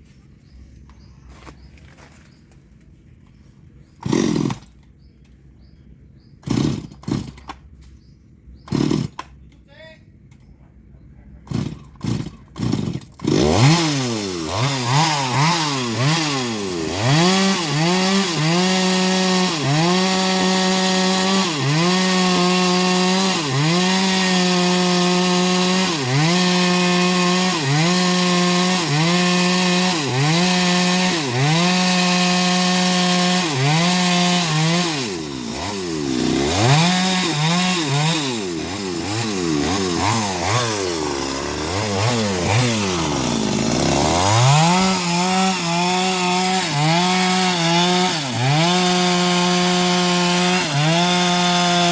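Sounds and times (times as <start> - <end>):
small sawmill engine revving: 3.9 - 5.0, 6.4 - 7.6, 8.6 - 9.3, 11.4 - 51.9.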